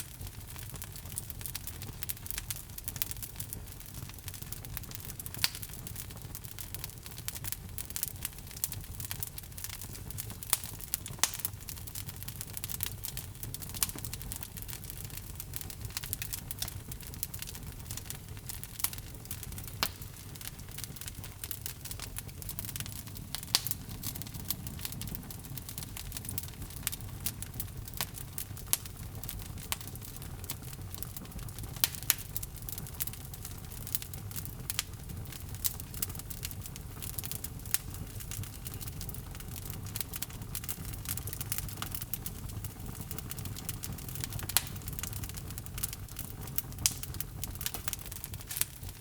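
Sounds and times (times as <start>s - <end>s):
logs crackling and popping: 0.0s - 49.0s
low rumble of flames: 0.0s - 49.0s.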